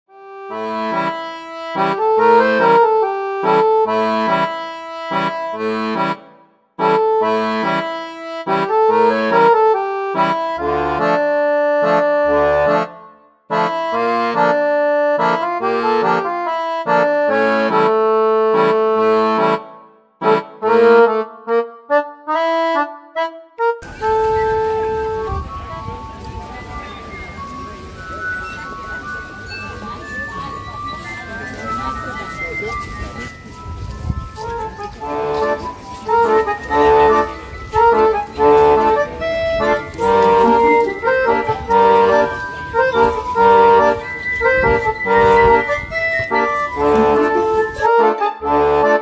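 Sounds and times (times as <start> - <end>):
accordion playing a tune: 0.1 - 49.0.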